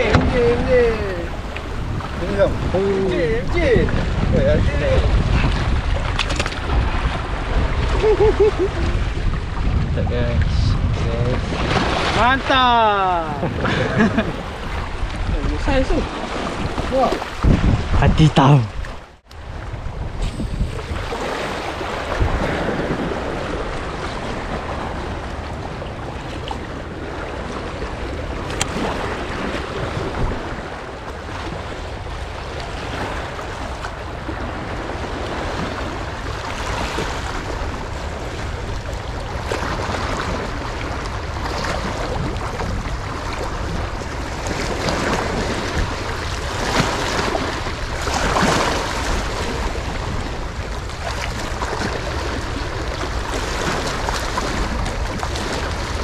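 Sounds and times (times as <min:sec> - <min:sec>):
seawater washing and splashing: 0:00.0 - 0:09.6, 0:10.4 - 0:19.1, 0:20.3 - 0:56.0
wind buffeting microphone: 0:00.0 - 0:56.0.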